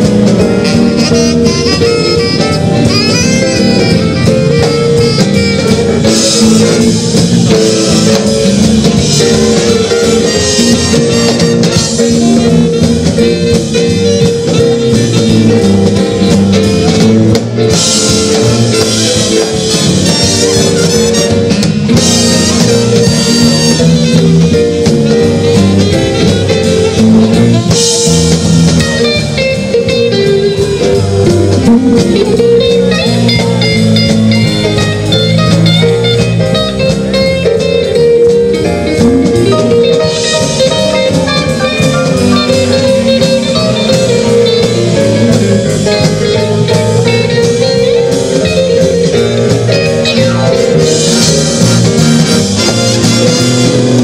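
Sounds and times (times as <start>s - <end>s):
big band playing: 0.0s - 54.0s.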